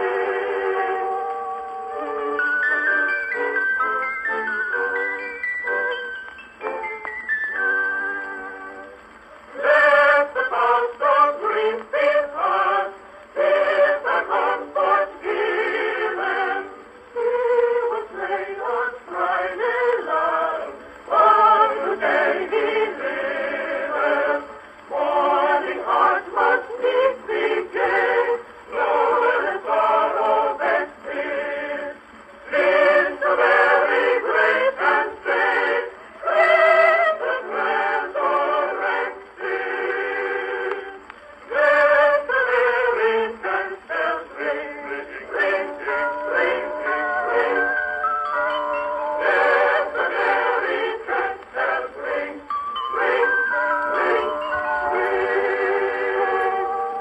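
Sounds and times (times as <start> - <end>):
old phonograph recording of singing: 0.0 - 57.0.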